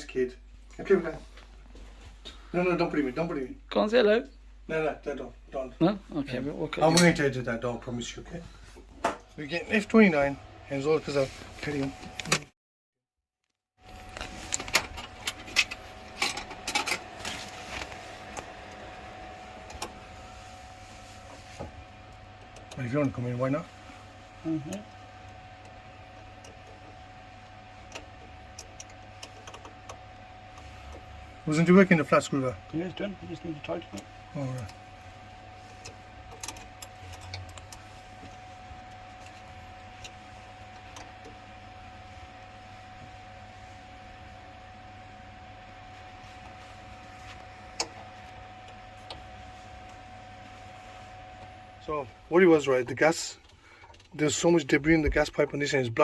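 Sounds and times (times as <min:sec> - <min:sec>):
steady hum: 0:00.0 - 0:12.5, 0:13.8 - 0:56.0.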